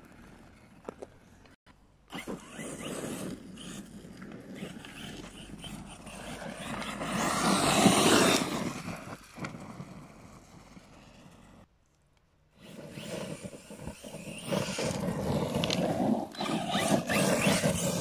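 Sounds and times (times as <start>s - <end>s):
rc truck driving over gravel: 0.0s - 11.7s, 12.5s - 18.0s.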